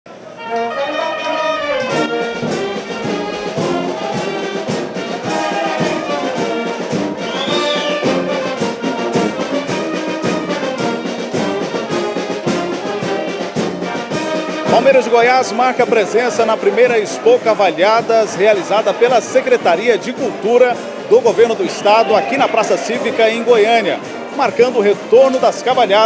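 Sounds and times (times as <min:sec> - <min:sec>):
trumpets and trombones: 0:00.1 - 0:26.0
percussion beat: 0:01.8 - 0:26.0.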